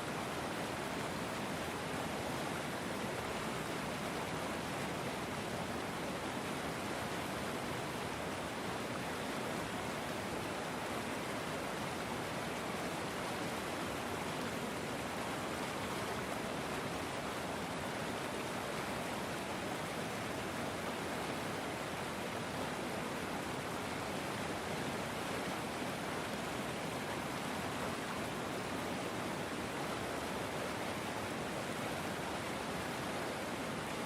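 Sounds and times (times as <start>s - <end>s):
river water flowing: 0.0s - 34.0s.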